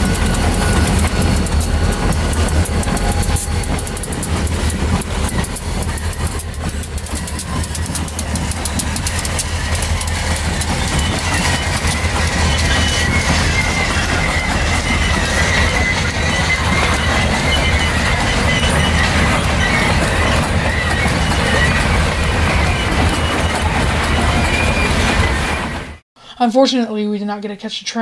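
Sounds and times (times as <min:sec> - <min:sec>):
freight train rumbling: 0:00.0 - 0:26.0
high wheel squeal: 0:00.0 - 0:26.0
wheels clicking over rail joints: 0:00.0 - 0:26.0.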